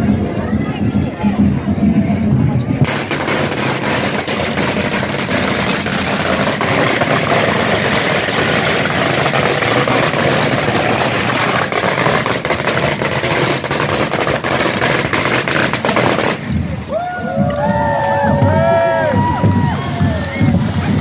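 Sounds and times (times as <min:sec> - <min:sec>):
fireworks hissing and crackling: 0:01.0 - 0:21.0.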